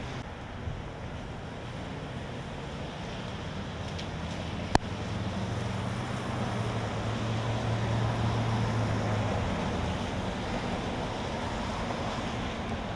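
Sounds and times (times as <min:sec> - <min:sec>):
low engine hum: 0:00.0 - 0:12.9
steady rain: 0:00.0 - 0:12.9
tyres hissing on wet road: 0:00.0 - 0:12.9.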